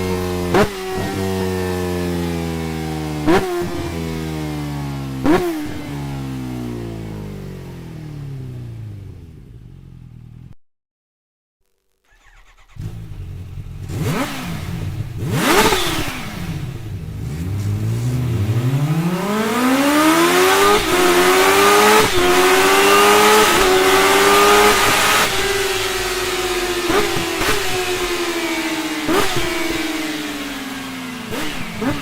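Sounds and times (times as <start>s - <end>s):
motorcycle engine revving: 0.0s - 10.6s, 12.1s - 32.0s.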